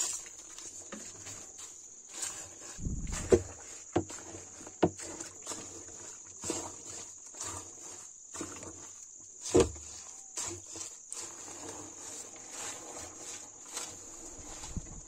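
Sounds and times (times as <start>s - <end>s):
stick pressing rustling wet leaves: 0.0s - 15.0s.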